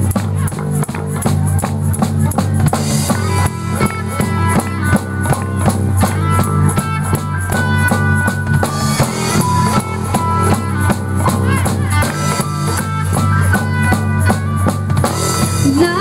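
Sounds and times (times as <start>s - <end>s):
drum kit steady beat: 0.0s - 16.0s
rock band playing live: 0.0s - 16.0s.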